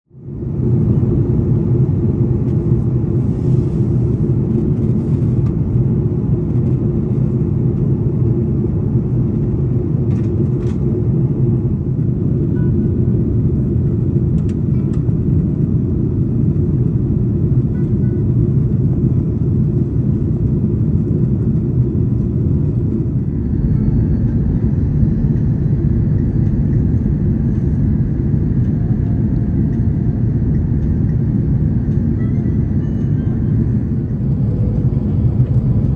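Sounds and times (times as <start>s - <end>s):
airliner cabin roar: 0.1s - 35.9s.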